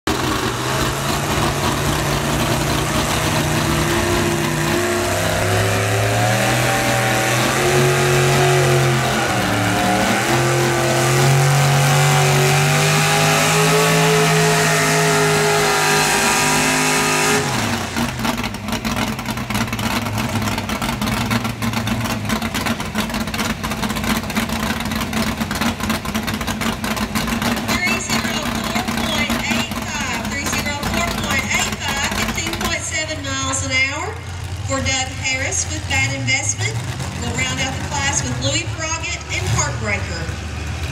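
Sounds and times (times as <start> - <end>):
engine revving up and down: 0.0 - 21.6, 27.2 - 40.9
rough crackling engine: 0.0 - 40.9.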